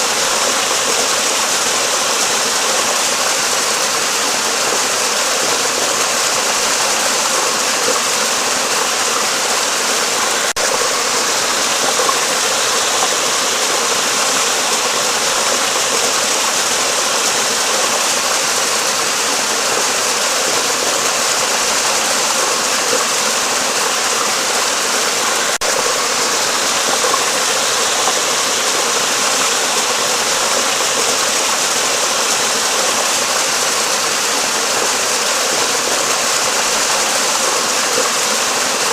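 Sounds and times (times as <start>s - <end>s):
water rushing under bridge: 0.0s - 38.9s.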